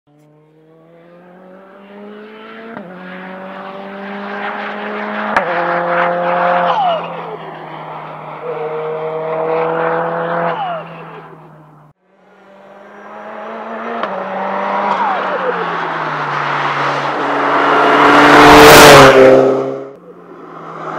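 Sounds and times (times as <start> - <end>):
car engine revving: 0.1 - 20.9.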